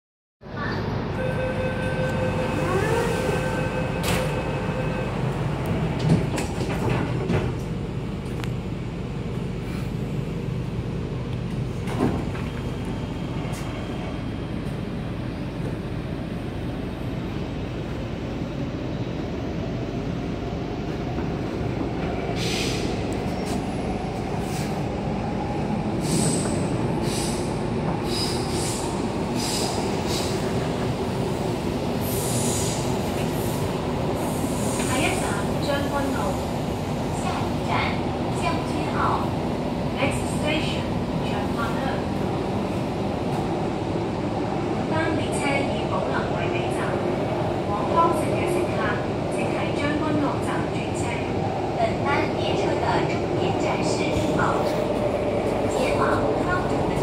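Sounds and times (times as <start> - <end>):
rumble of train wheels: 0.4 - 57.0.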